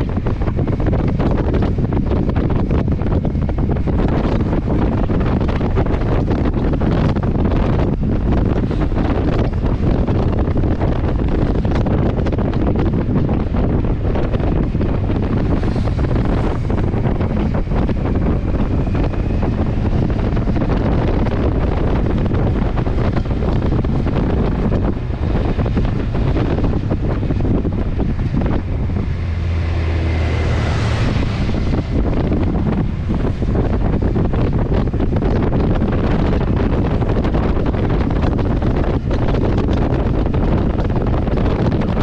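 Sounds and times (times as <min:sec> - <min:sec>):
motorcycle engine running: 0:00.0 - 0:42.0
wind rushing over microphone: 0:00.0 - 0:42.0.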